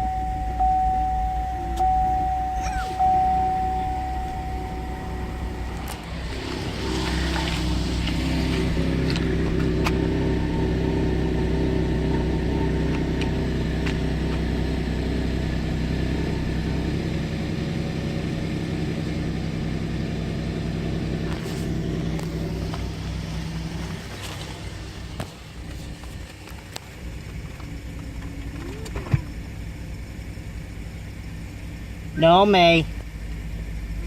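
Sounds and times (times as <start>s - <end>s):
car engine idling roughly: 1.8s - 34.0s.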